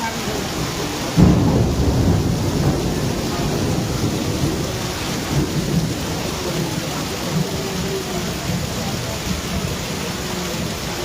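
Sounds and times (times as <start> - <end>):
heavy rain pouring: 0.0 - 11.0
low rumble of thunder: 0.4 - 11.0.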